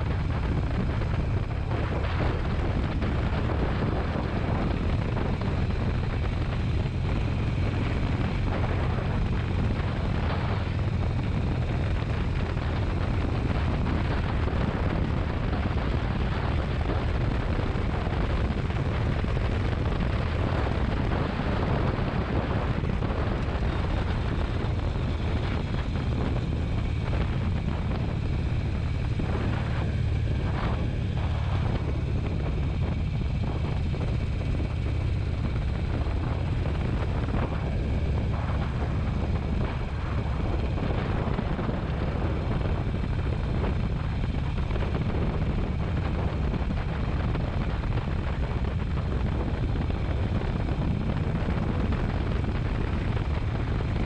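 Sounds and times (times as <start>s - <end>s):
motorcycle engine drone: 0.0s - 54.0s
wind and road noise: 0.0s - 54.0s.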